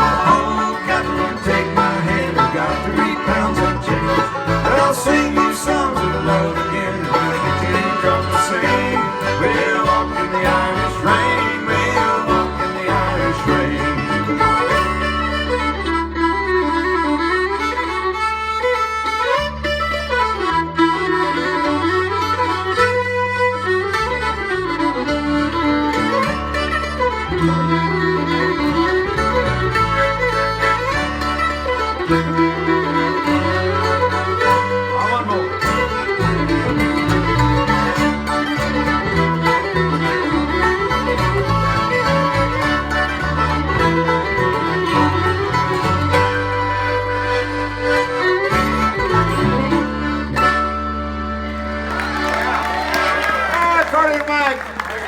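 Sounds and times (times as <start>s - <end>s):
bass notes: 0.0s - 53.6s
guitar: 0.0s - 53.9s
accordion: 0.0s - 55.0s
fiddle melody: 0.0s - 55.0s.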